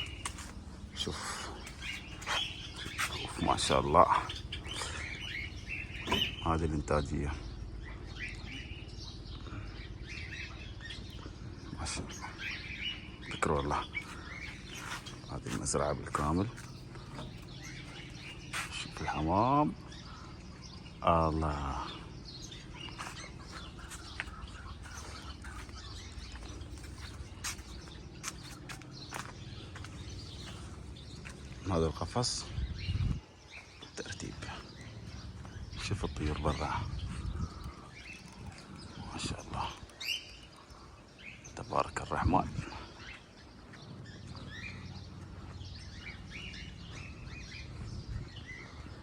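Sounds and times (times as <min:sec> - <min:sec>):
birds chirping: 0:00.0 - 0:49.0
steady low hum: 0:00.0 - 0:49.0.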